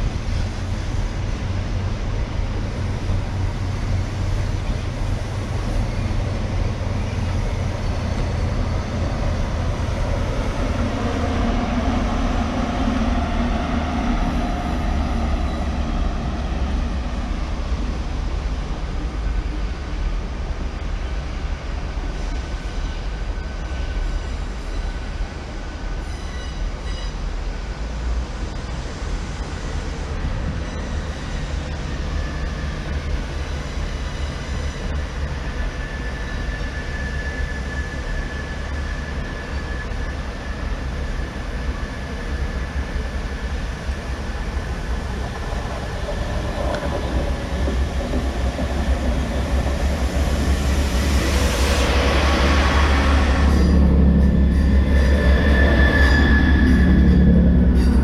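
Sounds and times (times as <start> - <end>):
diesel train engine rumble: 0.0 - 58.0.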